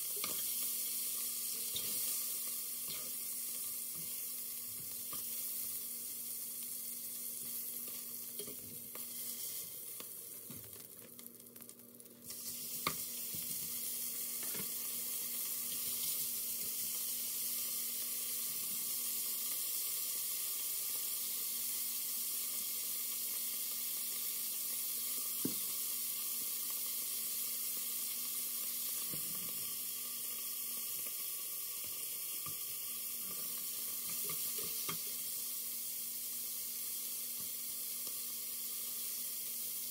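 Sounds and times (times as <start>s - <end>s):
meat sizzling in a pot: 0.0s - 39.9s.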